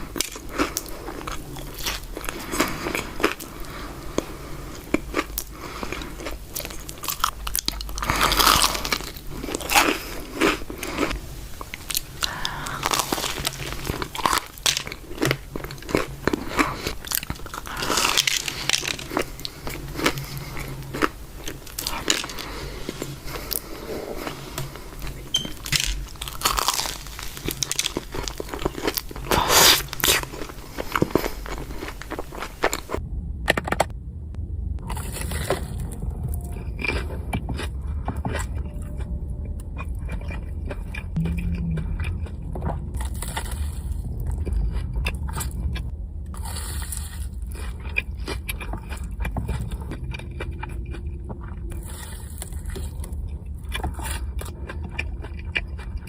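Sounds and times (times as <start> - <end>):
crunching and chewing fried food: 0.0 - 33.0, 34.8 - 56.0
steady low rumble: 0.0 - 56.0.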